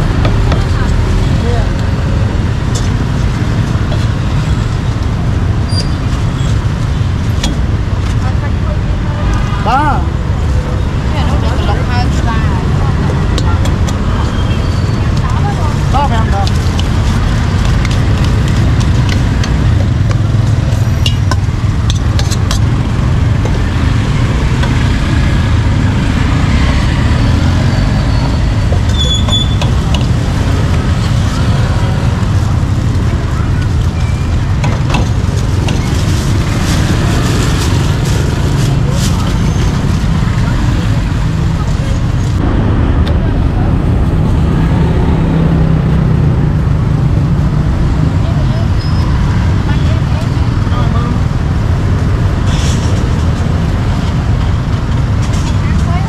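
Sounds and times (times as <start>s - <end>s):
street traffic rumble: 0.0s - 56.0s.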